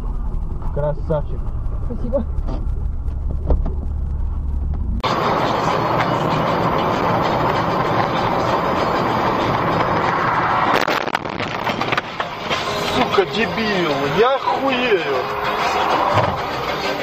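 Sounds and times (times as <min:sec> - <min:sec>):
car engine hum: 0:00.0 - 0:17.0
road and wind noise: 0:00.0 - 0:17.0.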